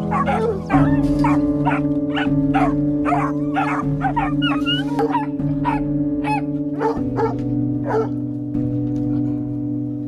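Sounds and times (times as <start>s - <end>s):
dog barking: 0.0s - 8.2s
slow background music: 0.0s - 10.0s.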